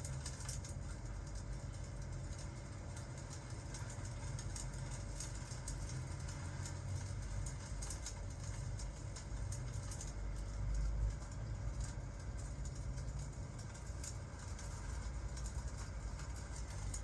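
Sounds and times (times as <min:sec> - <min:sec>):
fireplace crackling: 0:00.0 - 0:17.0
rain: 0:00.0 - 0:17.0.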